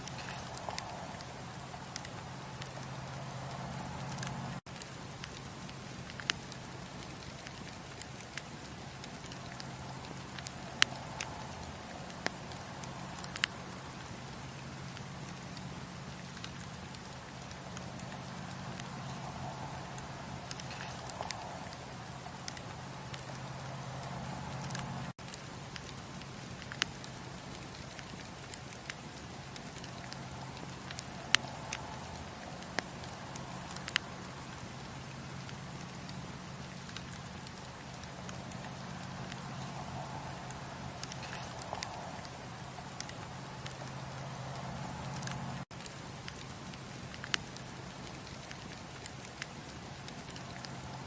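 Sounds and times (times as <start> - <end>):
burning wood rumble: 0.0 - 51.0
campfire crackling: 0.0 - 51.0
fire popping: 0.0 - 51.0.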